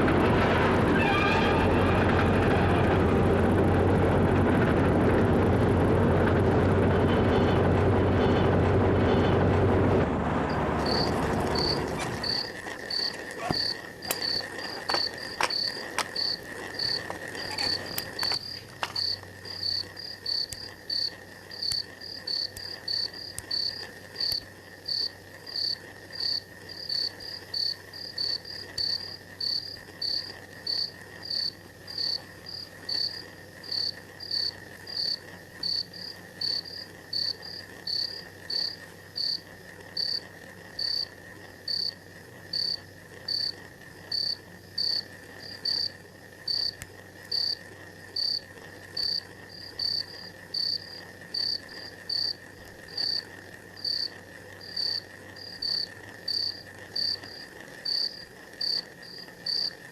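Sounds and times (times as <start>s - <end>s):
low continuous drone: 0.0s - 59.9s
insects chirping: 10.5s - 59.9s.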